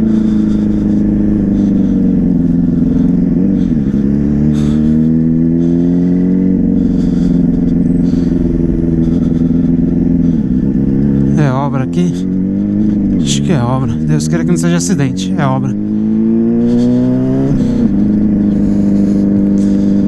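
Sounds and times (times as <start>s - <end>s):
motorcycle engine while riding: 0.0s - 20.0s.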